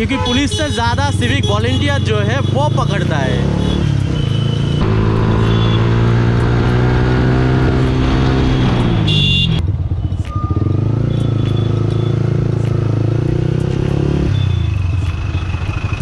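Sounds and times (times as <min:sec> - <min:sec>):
motorcycle engine with loud exhaust: 0:00.0 - 0:16.0.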